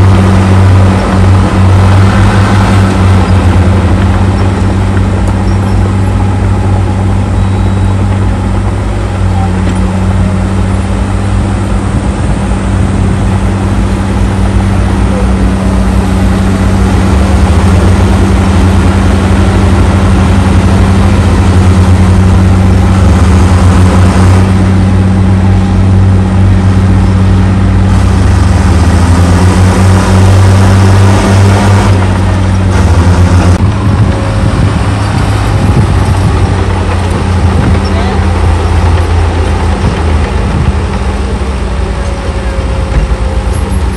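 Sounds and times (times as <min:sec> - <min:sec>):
bulldozer diesel engines droning: 0:00.0 - 0:43.9.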